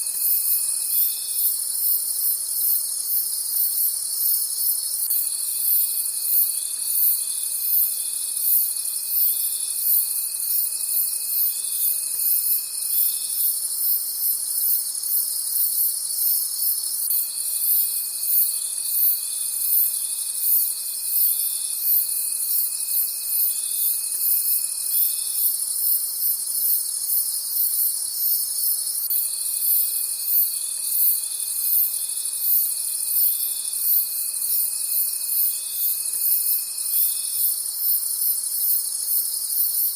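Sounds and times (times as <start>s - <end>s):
crickets trilling: 0.0s - 39.9s
low single insect trill: 0.0s - 39.9s.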